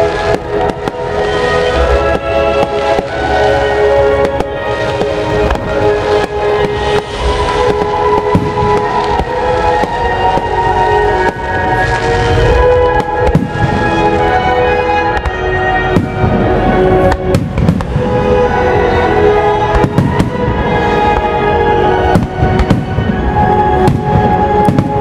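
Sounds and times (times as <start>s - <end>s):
loud music: 0.0s - 25.0s.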